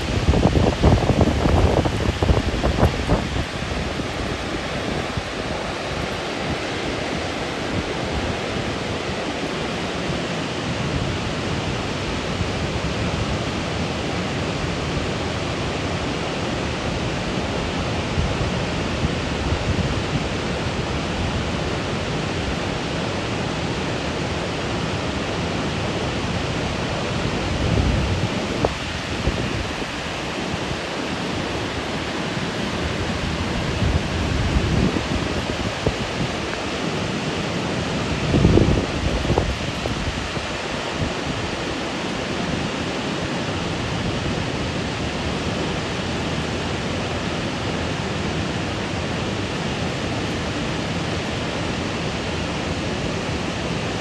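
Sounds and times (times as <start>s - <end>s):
waterfall rushing: 0.0s - 54.0s
wind gusts on microphone: 0.0s - 54.0s.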